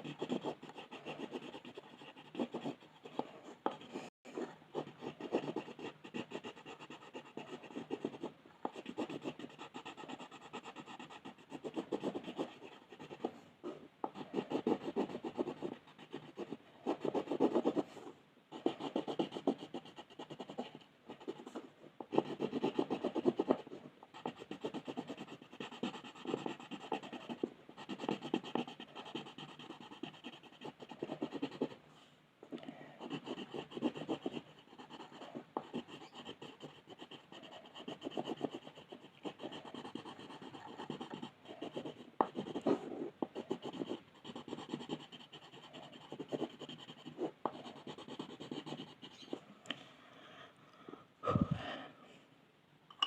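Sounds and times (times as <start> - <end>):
pencil scratching on paper: 0.0 - 31.8, 33.0 - 49.4.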